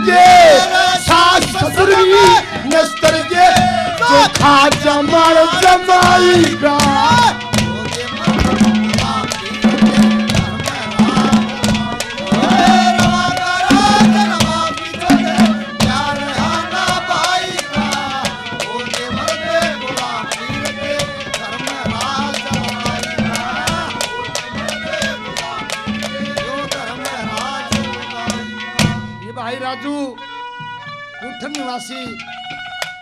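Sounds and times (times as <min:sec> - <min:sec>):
fast hand drum beat: 0:00.0 - 0:29.1
gliding folk melody: 0:00.0 - 0:33.0.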